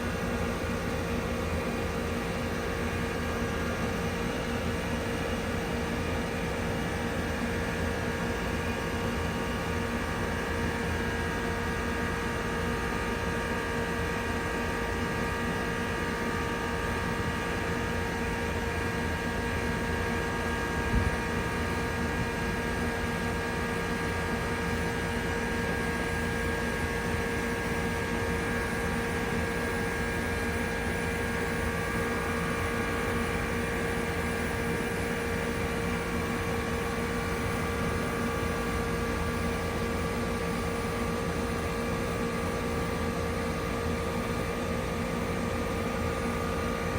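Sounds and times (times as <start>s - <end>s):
heat pump humming: 0.0s - 46.9s.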